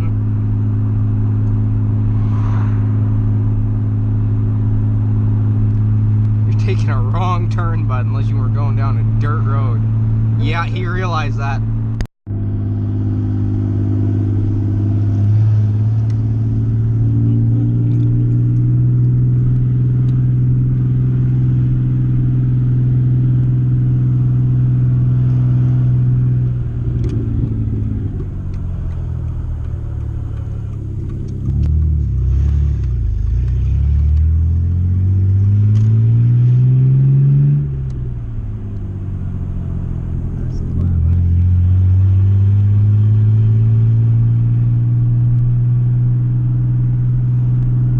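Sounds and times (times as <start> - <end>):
car engine drone from inside cabin: 0.0 - 47.9.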